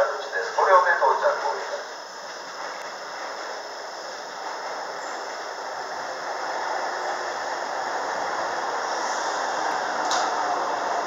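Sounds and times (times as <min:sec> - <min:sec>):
electric train equipment humming: 0:00.0 - 0:11.0.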